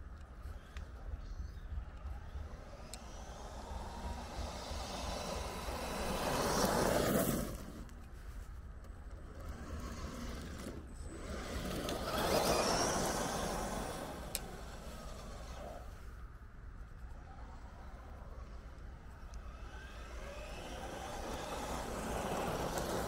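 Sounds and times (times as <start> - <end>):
toy truck electric motor: 2.4 - 8.0, 9.1 - 16.1, 17.1 - 23.0.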